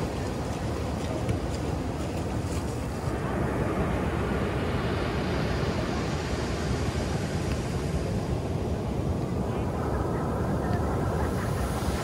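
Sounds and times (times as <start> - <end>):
surf washing up a beach: 0.0 - 12.0.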